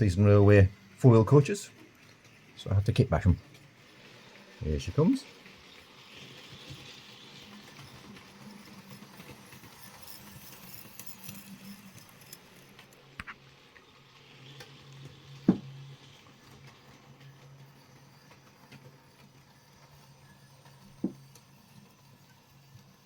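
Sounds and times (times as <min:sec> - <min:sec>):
model train motor humming: 0:00.0 - 0:23.0
wheels clicking on rail joints: 0:00.0 - 0:23.0.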